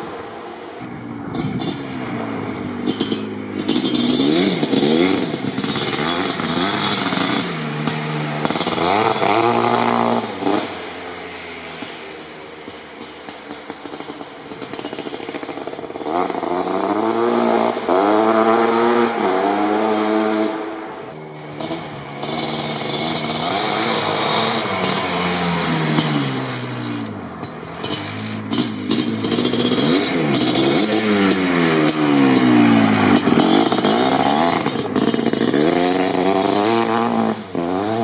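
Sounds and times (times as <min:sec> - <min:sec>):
exhaust crackles: 0:00.0 - 0:38.0
two-stroke engine revving: 0:00.8 - 0:38.0.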